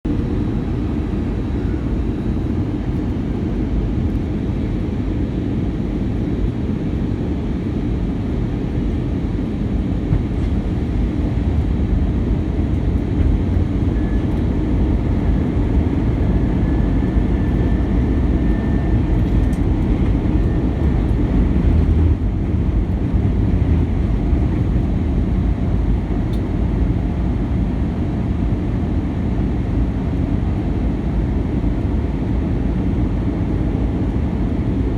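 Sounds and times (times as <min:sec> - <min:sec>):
airliner cabin engine rumble: 0:00.1 - 0:34.9.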